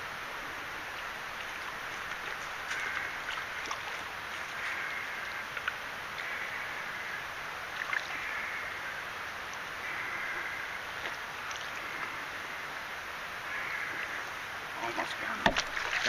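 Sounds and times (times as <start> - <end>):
steady hiss: 0.0 - 16.0
water sloshing and splashing: 0.3 - 16.0.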